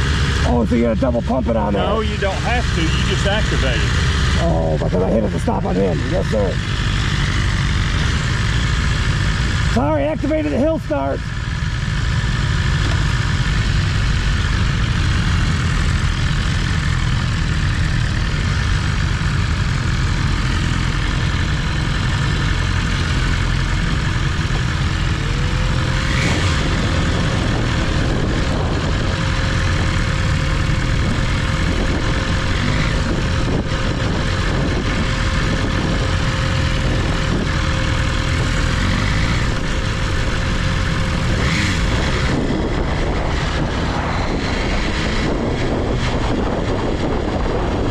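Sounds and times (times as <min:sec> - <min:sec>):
motorcycle engine low rumble: 0:00.0 - 0:47.9.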